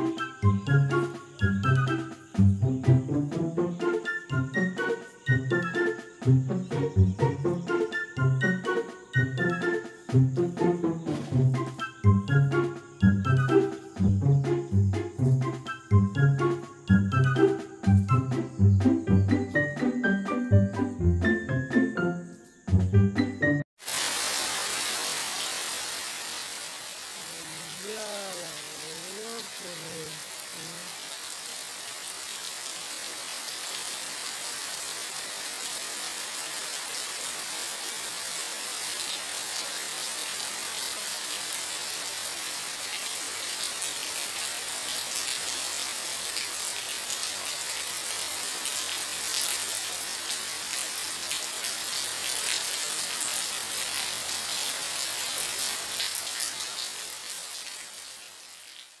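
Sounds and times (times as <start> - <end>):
rain on concrete and puddles: 0.0 - 22.4, 23.2 - 59.0.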